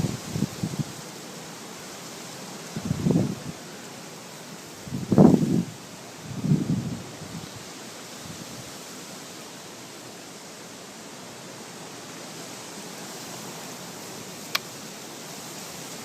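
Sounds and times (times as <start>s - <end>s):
wind hiss on microphone: 0.0s - 16.0s.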